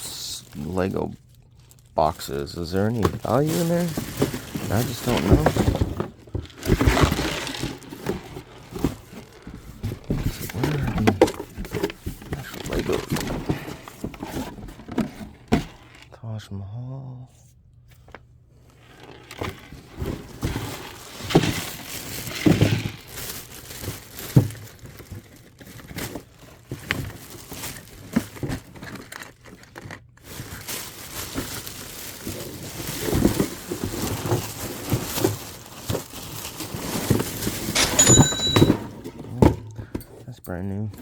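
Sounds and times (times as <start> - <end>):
packaging crinkling and rustling: 0.0 - 16.1, 18.0 - 39.4
knocks and bumps of items: 2.8 - 16.0, 19.2 - 40.2.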